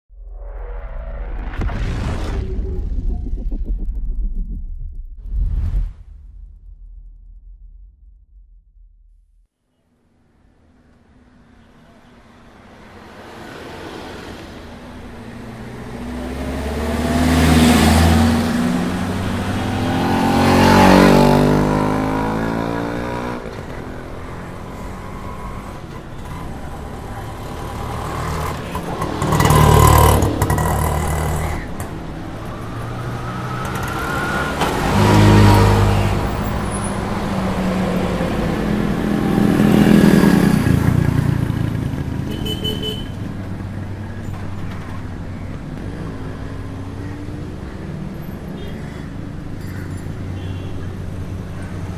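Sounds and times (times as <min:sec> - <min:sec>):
vehicles passing by: 0:09.8 - 0:51.9.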